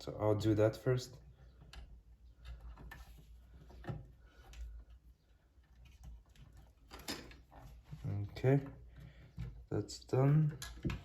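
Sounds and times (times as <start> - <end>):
electrical wires clicking and rustling: 0.8 - 11.0.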